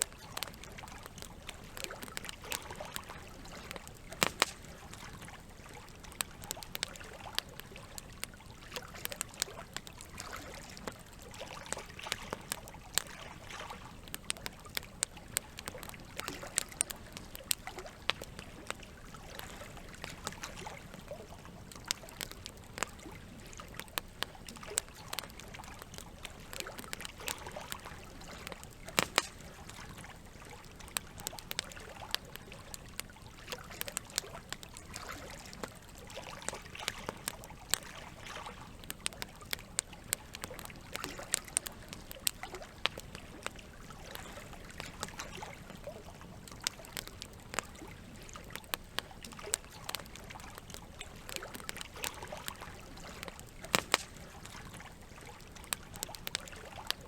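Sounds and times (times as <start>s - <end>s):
campfire crackling and popping: 0.0s - 57.0s
water trickling: 0.0s - 57.0s.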